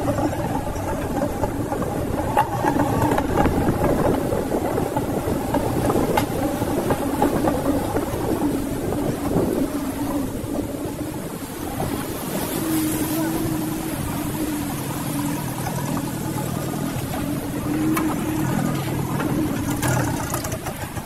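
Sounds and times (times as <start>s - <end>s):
off-road vehicle engine running: 0.0s - 21.0s.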